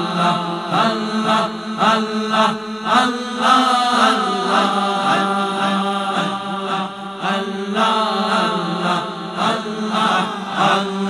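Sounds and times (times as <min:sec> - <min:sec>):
men chanting: 0:00.0 - 0:11.0.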